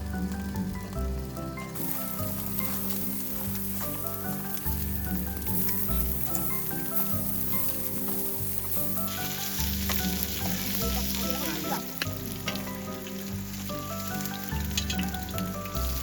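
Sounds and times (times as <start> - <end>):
food frying and sizzling: 0.0 - 16.0.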